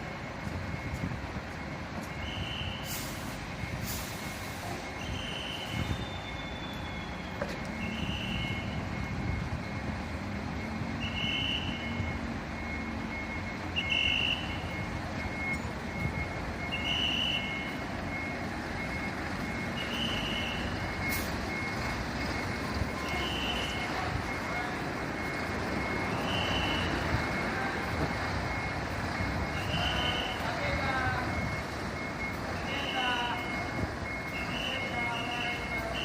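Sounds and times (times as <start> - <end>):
reversing alarm beeps: 0.0 - 36.0.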